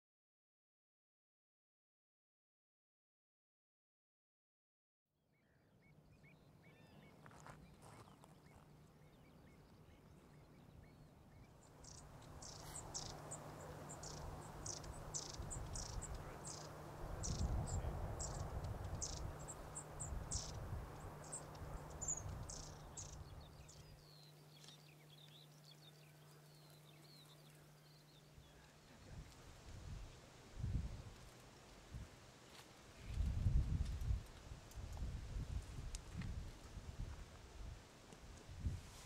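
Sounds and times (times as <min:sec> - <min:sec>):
faint steady hum: 0:05.6 - 0:39.0.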